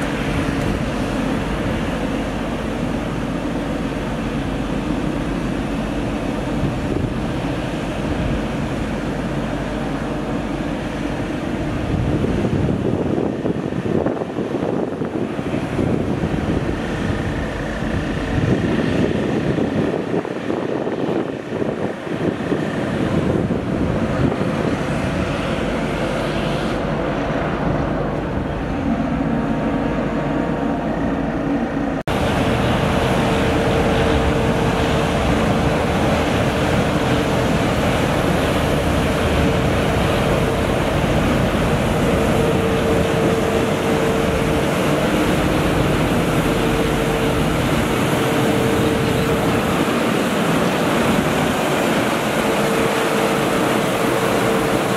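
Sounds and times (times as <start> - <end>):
street sweeper engine and blower whine: 0.0 - 54.9.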